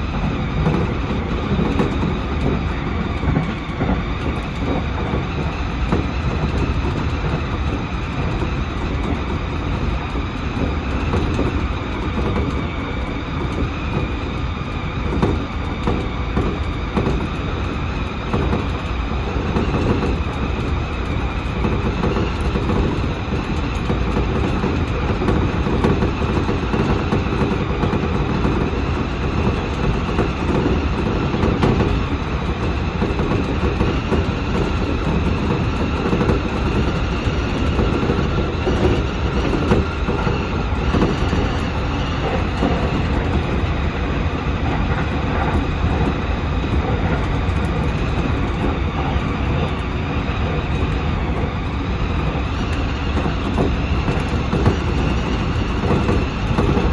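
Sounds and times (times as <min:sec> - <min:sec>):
wheels rumbling on rail: 0:00.0 - 0:56.9.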